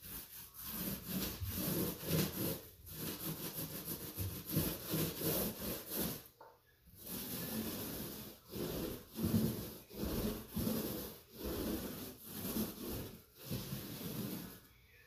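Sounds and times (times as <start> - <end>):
paint roller rasping on wall: 0.0 - 15.0.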